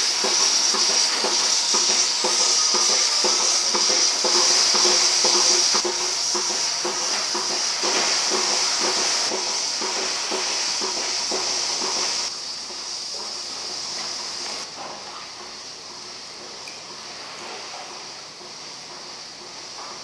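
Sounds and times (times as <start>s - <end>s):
milking machine hissing and pulsing: 0.0s - 20.0s.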